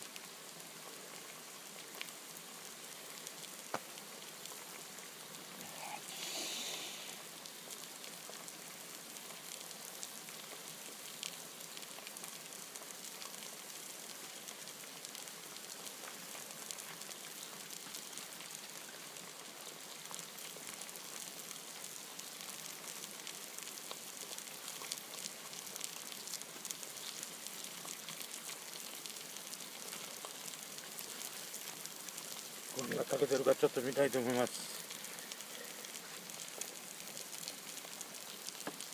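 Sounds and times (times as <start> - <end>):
food sizzling and crackling: 0.0 - 38.9.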